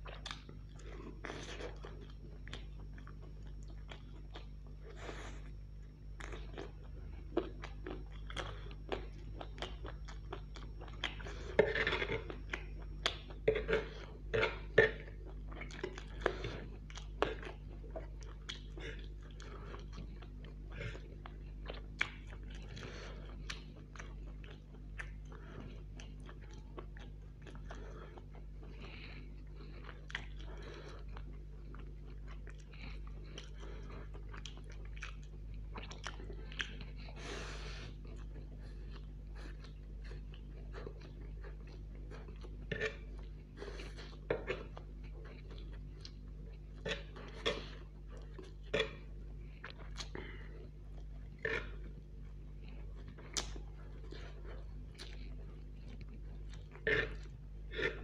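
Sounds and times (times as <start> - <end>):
steady low hum: 0.0 - 58.0
wet chewing of noodles: 0.0 - 58.0.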